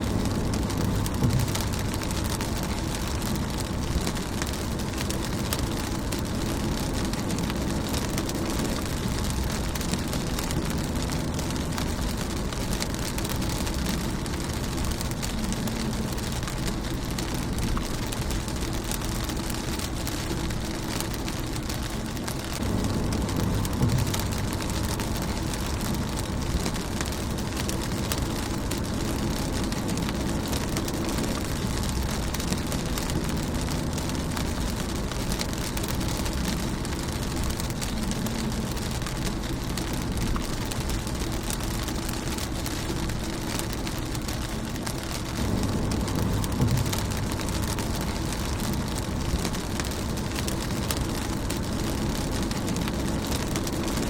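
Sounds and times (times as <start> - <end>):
low rumble: 0.0 - 54.0
rain on a car windshield: 0.0 - 54.0.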